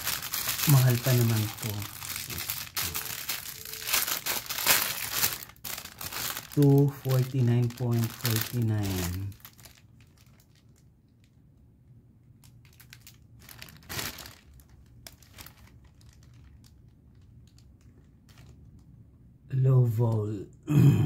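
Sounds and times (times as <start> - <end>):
plastic packaging crinkling: 0.0 - 11.4, 12.4 - 18.9.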